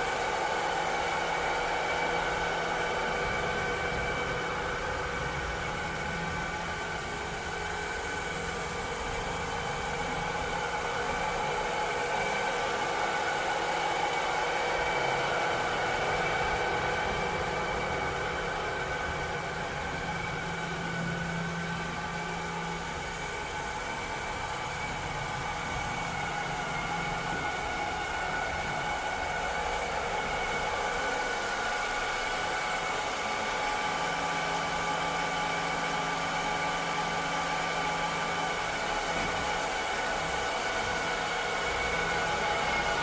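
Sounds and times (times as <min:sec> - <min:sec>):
robot vacuum cleaner whirring: 0:00.0 - 0:43.0.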